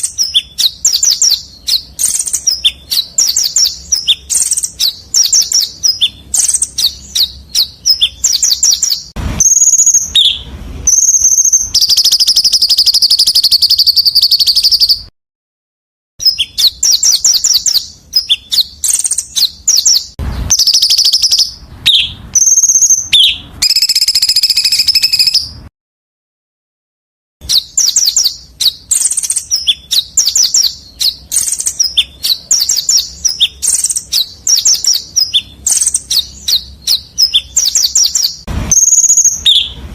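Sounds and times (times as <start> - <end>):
songbird chirps and trills: 0.0 - 15.1, 16.2 - 25.7, 27.4 - 39.8.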